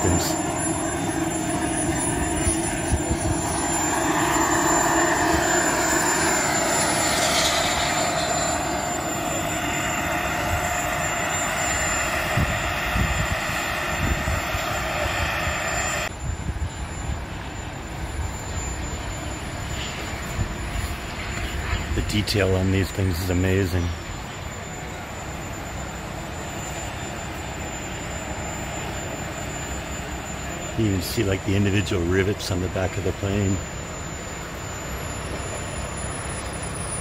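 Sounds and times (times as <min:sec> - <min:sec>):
model jet turbine whine: 0:00.0 - 0:37.0.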